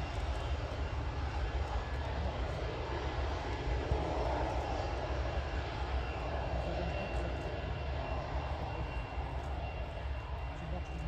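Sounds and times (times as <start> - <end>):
jet engines rolling on runway: 0.0 - 11.0.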